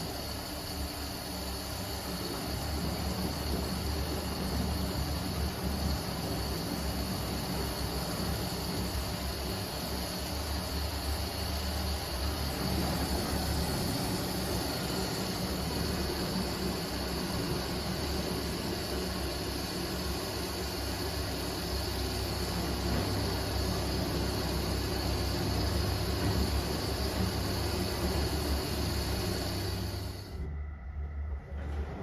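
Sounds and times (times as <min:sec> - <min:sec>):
washing machine running: 0:00.0 - 0:32.0.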